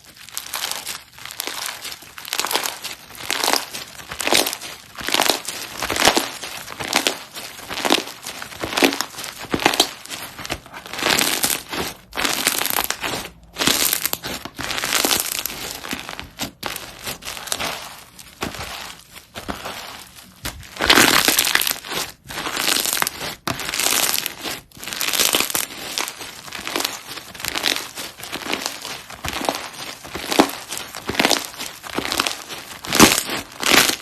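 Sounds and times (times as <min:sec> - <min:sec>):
slime crackling and popping: 0:00.0 - 0:34.0.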